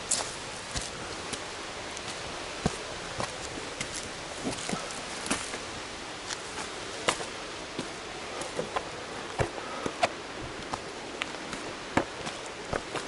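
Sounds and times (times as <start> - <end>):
background hiss: 0.0 - 13.0
footsteps on gravel: 0.0 - 13.0.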